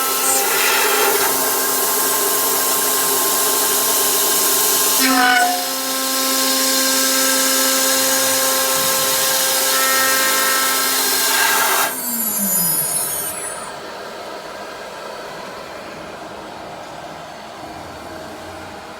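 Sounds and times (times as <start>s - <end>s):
machine spindle whine: 0.0s - 18.9s.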